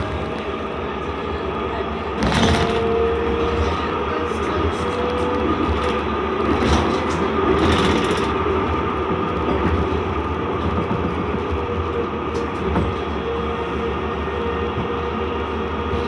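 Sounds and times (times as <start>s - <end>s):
tram clattering: 0.0s - 16.0s
tram rumble and whine: 0.0s - 16.0s.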